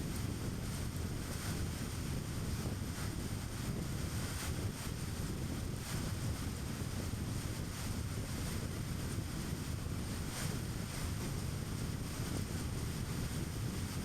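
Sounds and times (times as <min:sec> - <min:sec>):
wind noise: 0:00.0 - 0:14.0.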